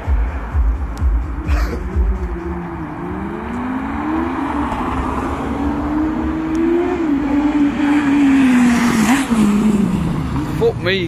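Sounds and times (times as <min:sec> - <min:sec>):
motorcycle engine revving: 0:01.0 - 0:11.0.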